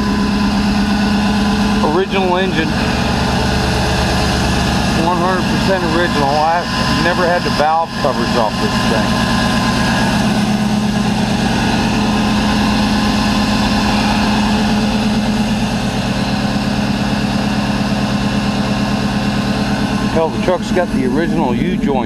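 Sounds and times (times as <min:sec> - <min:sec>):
pickup engine idling: 0:00.0 - 0:22.0.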